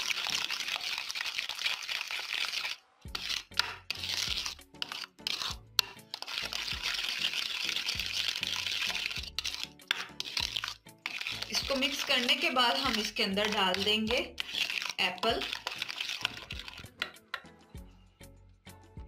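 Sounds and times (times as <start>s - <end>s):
spatula scraping a bowl: 0.0s - 17.4s
background music: 2.5s - 19.0s.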